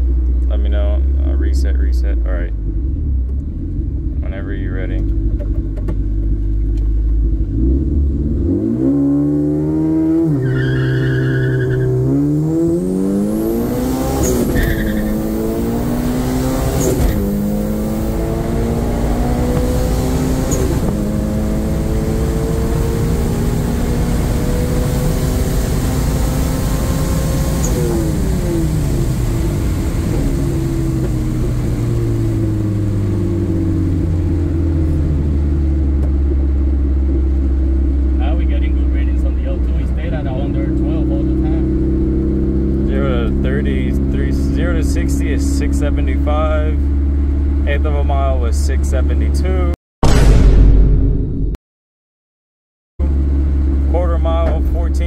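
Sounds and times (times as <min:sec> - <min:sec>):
car engine accelerating hard: 0:00.5 - 0:49.7.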